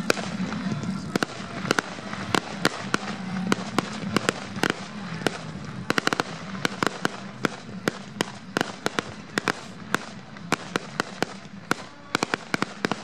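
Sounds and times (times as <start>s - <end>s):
background hiss: 0.0s - 13.0s
fireworks popping and cracking: 0.0s - 13.0s.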